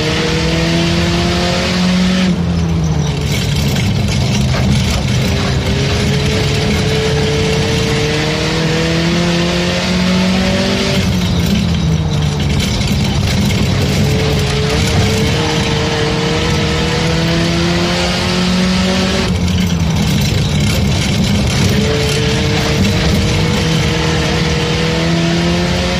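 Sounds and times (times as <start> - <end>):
race car engine accelerating: 0.0 - 25.9.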